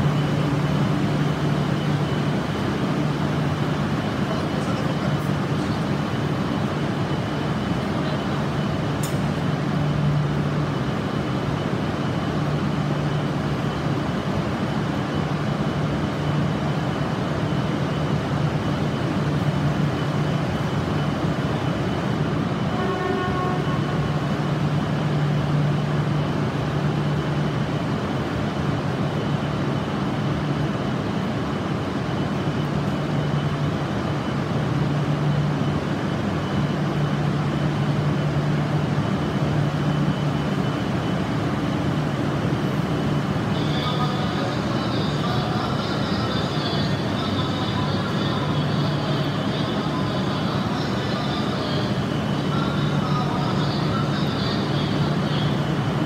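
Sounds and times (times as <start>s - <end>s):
train equipment humming: 0.0s - 56.0s.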